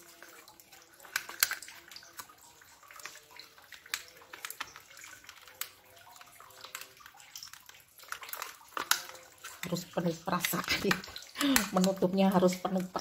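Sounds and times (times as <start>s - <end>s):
plastic lids clicking and crinkling: 0.0s - 13.0s.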